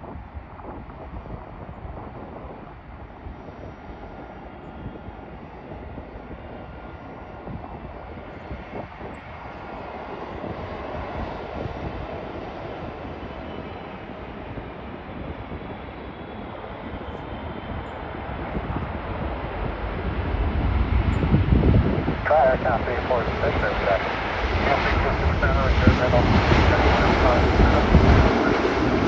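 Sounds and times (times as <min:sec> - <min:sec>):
jet engine rushing: 0:00.8 - 0:29.0.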